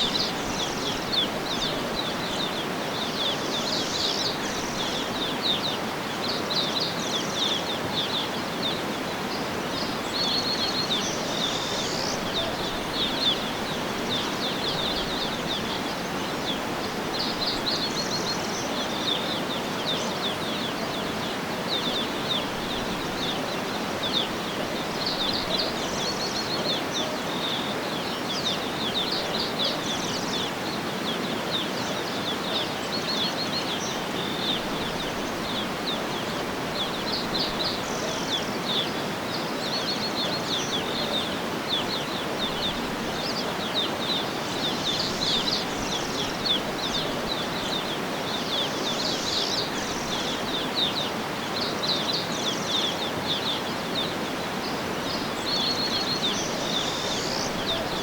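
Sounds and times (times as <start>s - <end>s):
outdoor ambience hiss: 0.0s - 58.0s
songbirds chirping and trilling: 0.0s - 58.0s.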